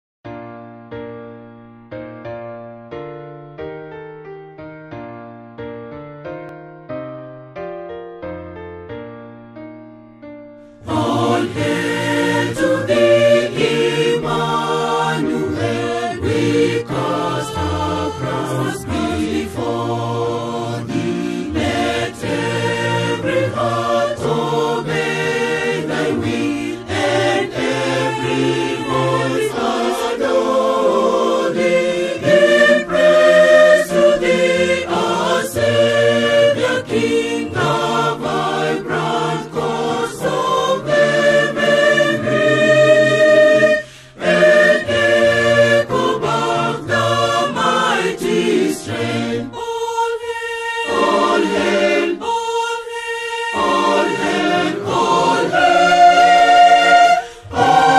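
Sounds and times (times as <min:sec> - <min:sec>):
choir singing a hymn: 0:10.8 - 0:57.9.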